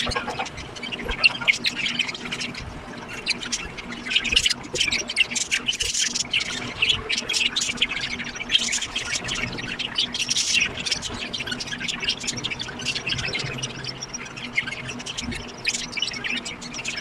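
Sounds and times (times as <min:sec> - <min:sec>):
budgerigars chirping and squawking: 0:00.0 - 0:17.0.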